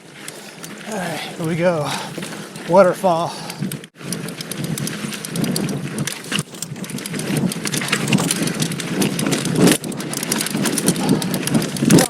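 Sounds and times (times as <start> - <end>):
bike knocks and rattles: 0.0 - 12.0
tyres crunching over stones: 0.0 - 12.0.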